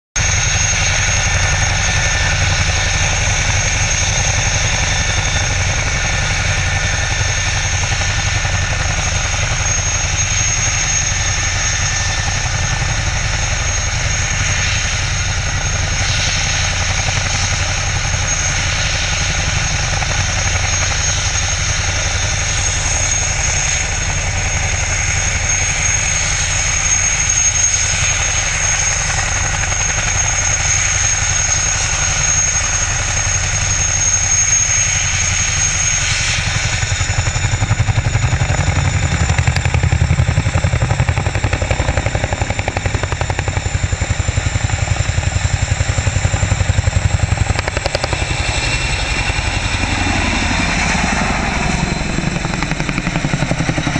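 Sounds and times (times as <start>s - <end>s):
helicopter rotor beat: 0.2s - 53.9s
high turbine whine: 0.2s - 53.9s.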